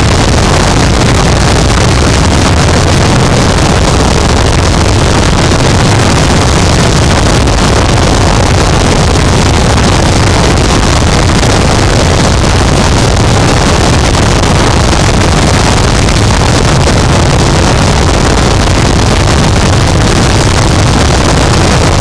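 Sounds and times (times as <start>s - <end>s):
distorted static noise wall: 0.0s - 22.0s.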